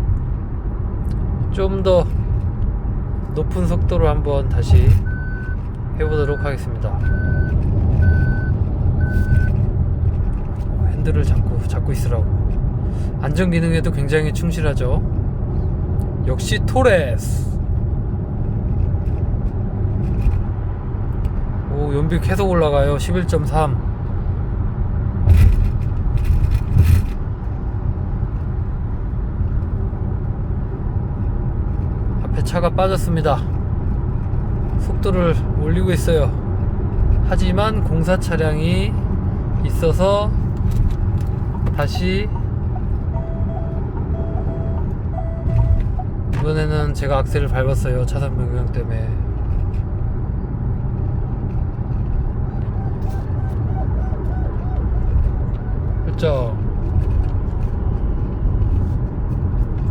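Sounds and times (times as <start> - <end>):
road and tyre rumble in car cabin: 0.0 - 59.9.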